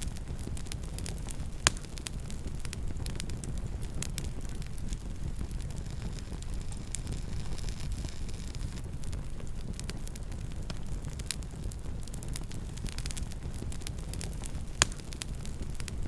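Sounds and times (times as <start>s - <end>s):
burning wood crackling and popping: 0.0s - 16.0s
campfire flames rumbling: 0.0s - 16.0s.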